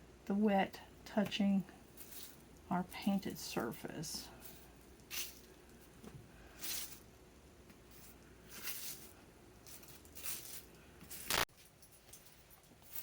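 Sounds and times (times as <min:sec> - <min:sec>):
rustling handling noises: 0:01.8 - 0:13.0.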